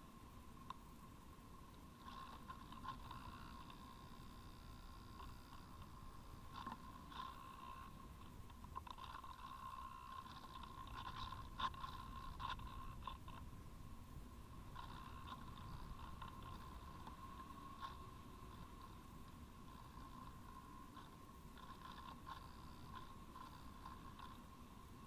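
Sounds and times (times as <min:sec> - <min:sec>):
faint high whine: 0:00.0 - 0:25.0.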